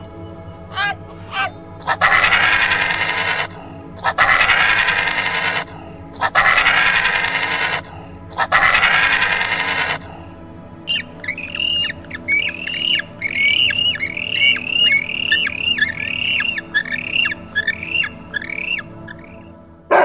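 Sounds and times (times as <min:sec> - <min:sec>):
bird squawking rapidly: 0:00.7 - 0:10.0, 0:10.9 - 0:20.0
harsh animal cries: 0:00.7 - 0:10.2, 0:10.9 - 0:20.0.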